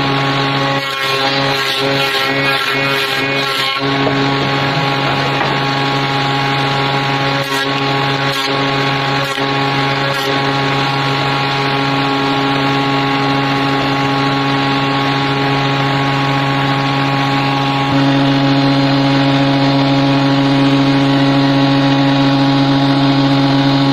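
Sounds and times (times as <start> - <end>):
spindle moulder motor hum: 0.0 - 23.9.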